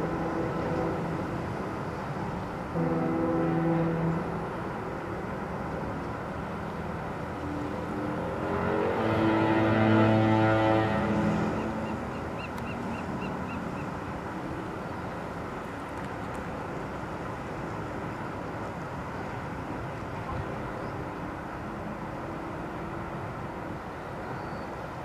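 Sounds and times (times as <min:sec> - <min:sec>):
bay water: 0:00.0 - 0:25.0
distant traffic: 0:00.0 - 0:25.0
wind: 0:00.0 - 0:25.0.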